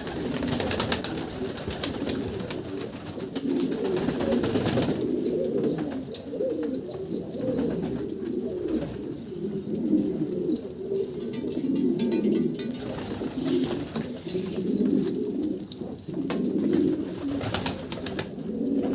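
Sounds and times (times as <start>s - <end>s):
pigeons cooing: 0.0s - 18.9s.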